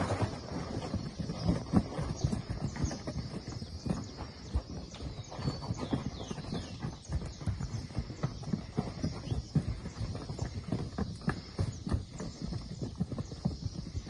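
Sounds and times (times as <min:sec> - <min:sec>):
birds chirping: 0:00.0 - 0:14.0
livestock hooves stepping: 0:00.0 - 0:14.0.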